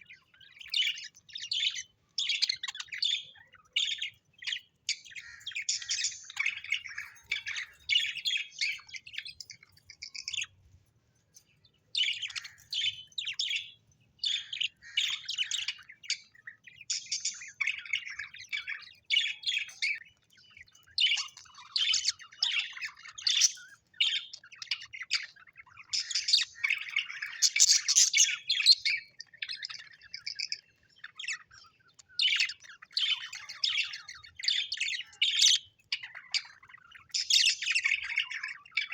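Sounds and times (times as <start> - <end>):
parrots chirping and chattering: 0.0 - 38.9.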